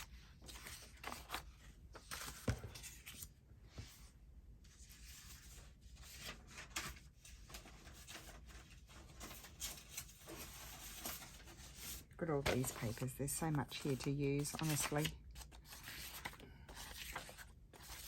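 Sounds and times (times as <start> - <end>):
paper sheets rustling: 0.0 - 4.1, 4.7 - 18.0.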